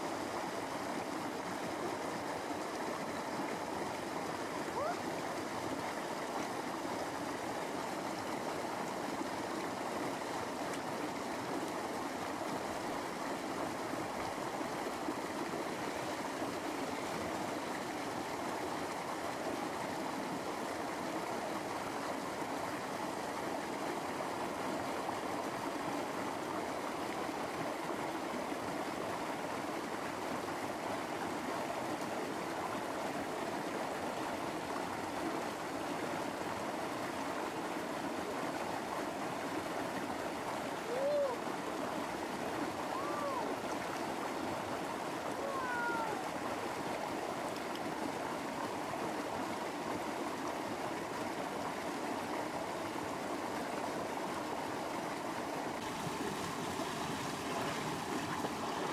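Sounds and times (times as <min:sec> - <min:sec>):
river water flowing: 0:00.0 - 0:58.9.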